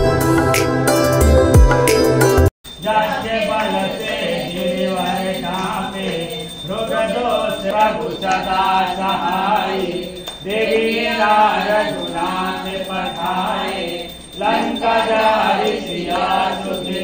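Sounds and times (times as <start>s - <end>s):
voices chanting a hymn: 2.8s - 17.0s.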